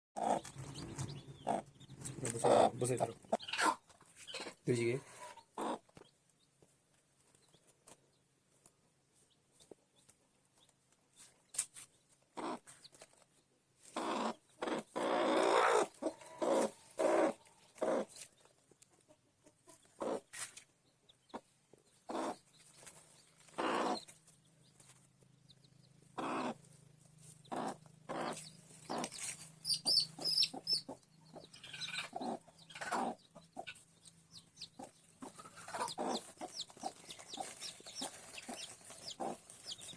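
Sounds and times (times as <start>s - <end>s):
chickens clucking: 0.2s - 6.6s, 12.1s - 13.2s, 13.8s - 39.9s.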